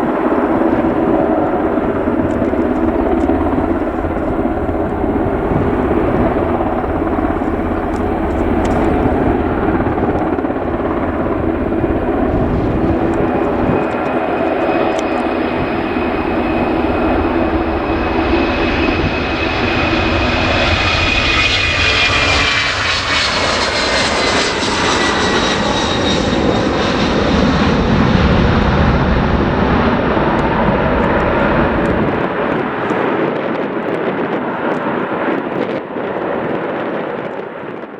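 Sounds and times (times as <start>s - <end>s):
high engine whine: 0.0s - 32.6s
jet engines roaring: 0.0s - 36.8s.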